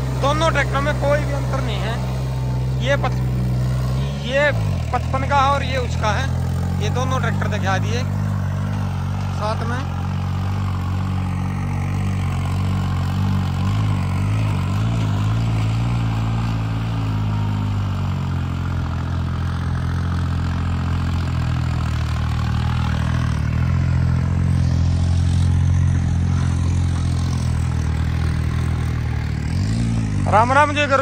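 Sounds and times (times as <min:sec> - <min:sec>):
tractor diesel engines running: 0:00.0 - 0:31.0.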